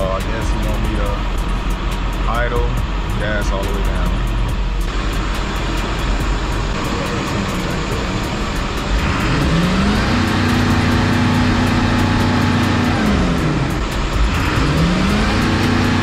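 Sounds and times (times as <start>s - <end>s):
diesel bus engine revving: 0.0s - 16.0s.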